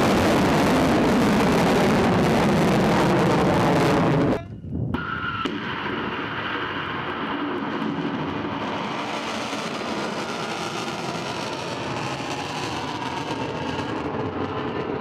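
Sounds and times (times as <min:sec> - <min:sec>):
rocket engine rushing roar: 0:00.0 - 0:15.0.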